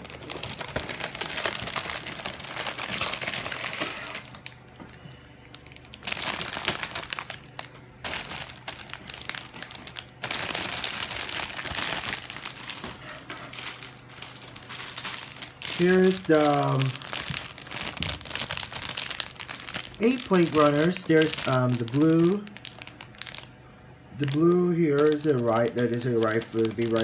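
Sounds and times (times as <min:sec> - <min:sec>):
plastic bags crinkling: 0:00.0 - 0:23.6, 0:24.2 - 0:27.0.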